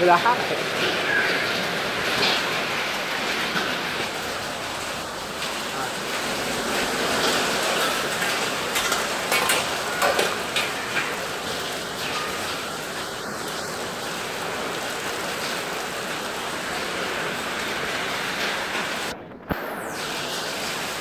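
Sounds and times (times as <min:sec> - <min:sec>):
heavy rain and hail: 0:00.0 - 0:21.0.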